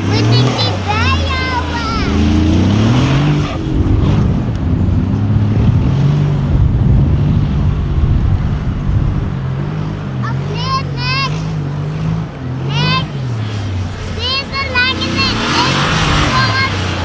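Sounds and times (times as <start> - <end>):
truck engine under load: 0.0 - 17.0.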